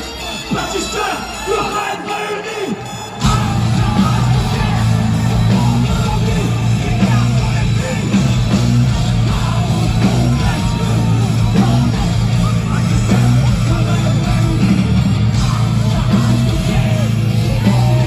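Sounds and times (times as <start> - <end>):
heavy metal band playing live: 0.0 - 18.0.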